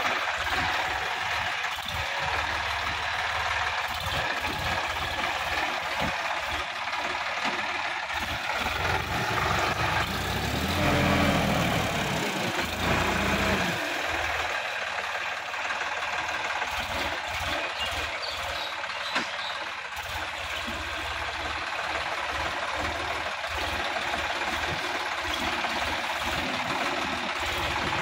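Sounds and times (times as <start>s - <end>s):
tractor diesel engine chugging: 0.0s - 28.0s.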